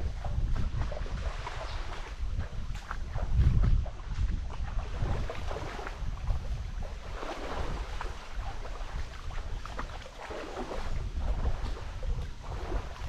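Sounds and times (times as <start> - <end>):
small waves lapping on shore: 0.0 - 13.0
wind rumbling on microphone: 0.0 - 13.0.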